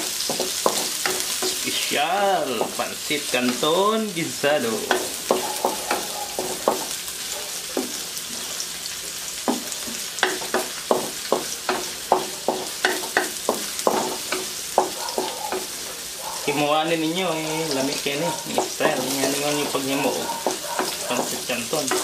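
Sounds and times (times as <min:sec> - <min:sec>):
wooden spatula scraping a wok: 0:00.0 - 0:03.6, 0:04.9 - 0:16.5, 0:17.5 - 0:22.0
onion and garlic sizzling in oil: 0:00.0 - 0:22.0.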